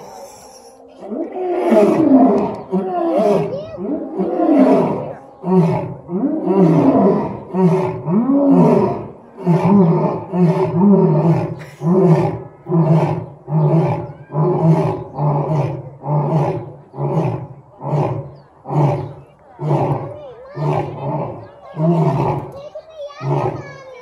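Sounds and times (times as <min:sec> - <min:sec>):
lions roaring: 0:00.0 - 0:22.6, 0:23.2 - 0:23.8.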